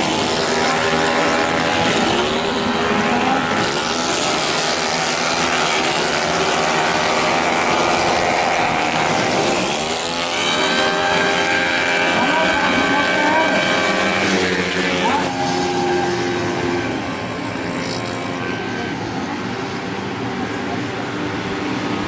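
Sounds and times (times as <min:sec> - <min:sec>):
racing scooter engines wailing: 0:00.0 - 0:22.0.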